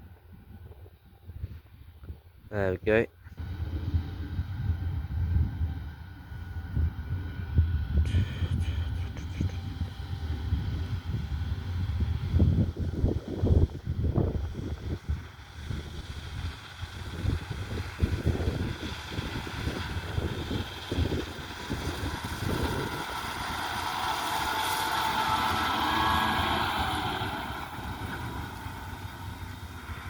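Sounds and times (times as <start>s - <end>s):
wind buffeting microphone: 0.0s - 30.0s
harvester engine: 2.6s - 30.0s.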